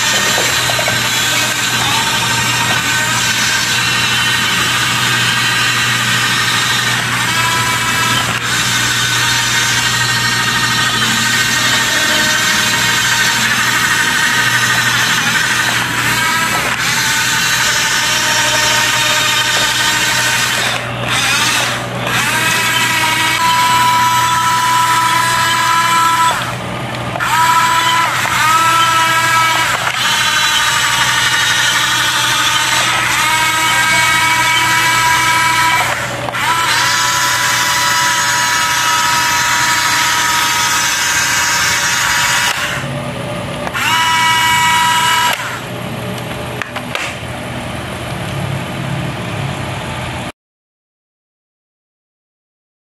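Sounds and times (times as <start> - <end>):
electric motors whining: 0.0 - 50.3.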